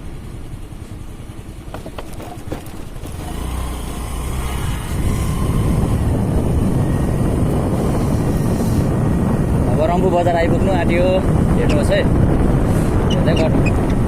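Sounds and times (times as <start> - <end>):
motorcycle engine running: 0.0 - 14.0
road noise: 0.0 - 14.0.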